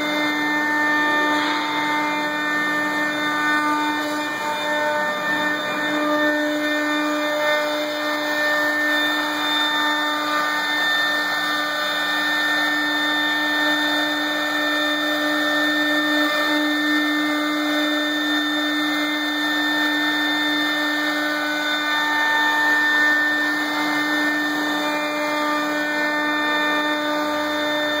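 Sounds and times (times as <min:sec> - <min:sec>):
bit cutting wood board: 0:00.0 - 0:28.0
milling spindle whine: 0:00.0 - 0:28.0.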